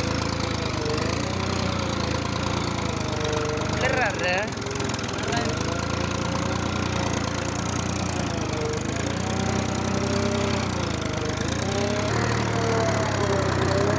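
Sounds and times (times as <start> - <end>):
tractor engine running: 0.0 - 13.9.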